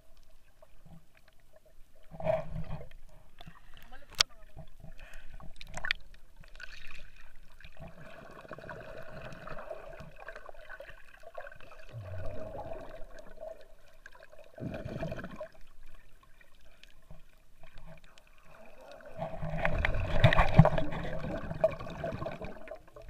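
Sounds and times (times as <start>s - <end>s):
water sloshing and bubbling underwater: 0.0s - 23.0s.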